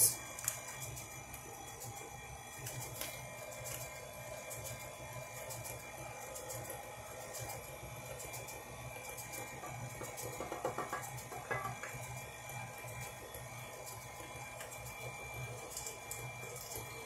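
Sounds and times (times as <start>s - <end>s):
stand mixer running: 0.0s - 17.0s.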